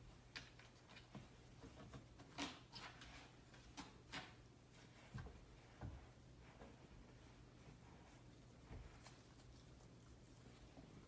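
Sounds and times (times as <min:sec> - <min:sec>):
faint low steady hum: 0:00.0 - 0:11.0.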